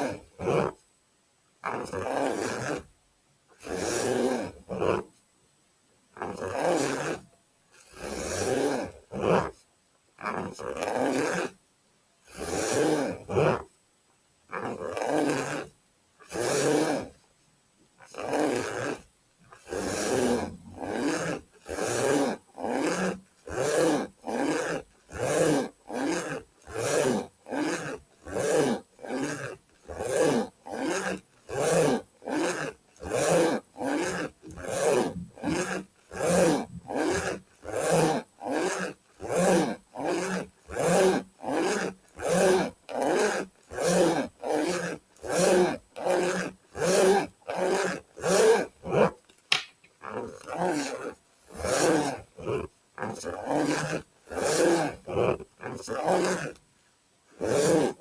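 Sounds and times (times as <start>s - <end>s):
rasping strokes on pencil case: 0.0s - 0.9s, 1.6s - 5.3s, 6.2s - 11.6s, 12.2s - 13.8s, 14.5s - 49.3s, 50.0s - 58.0s.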